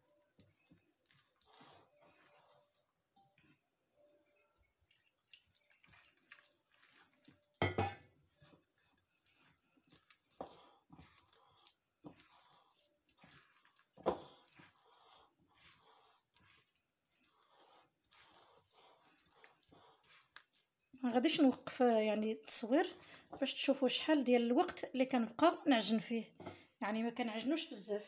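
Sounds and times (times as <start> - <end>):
hands squelching wet dough: 0.0 - 3.0, 4.8 - 24.9.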